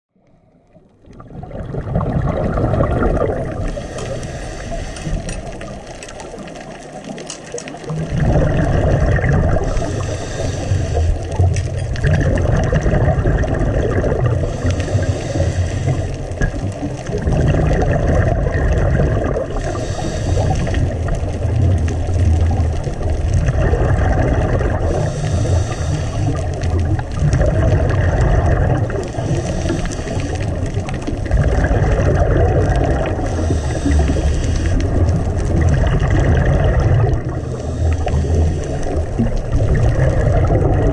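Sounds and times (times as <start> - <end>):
muffled underwater gurgling: 0.2 - 40.9.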